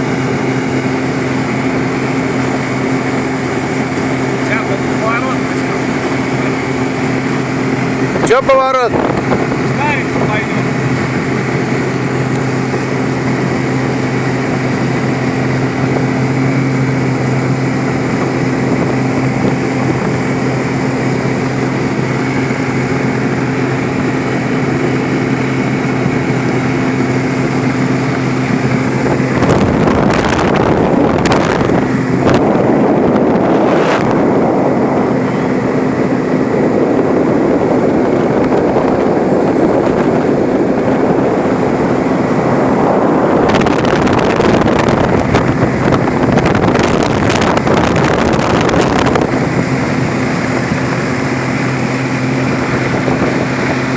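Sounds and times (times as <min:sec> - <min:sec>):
outboard engine drone: 0:00.0 - 0:53.9
rush of wind and water: 0:00.0 - 0:53.9.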